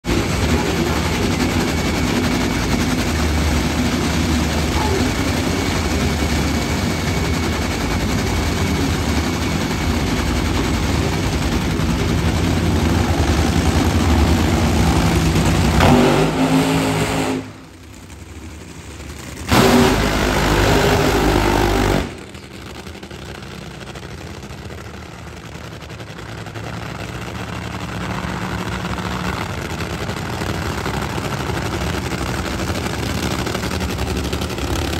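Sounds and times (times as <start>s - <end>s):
drag racing engines rumbling: 0.0s - 34.9s
engine idling: 0.0s - 34.9s.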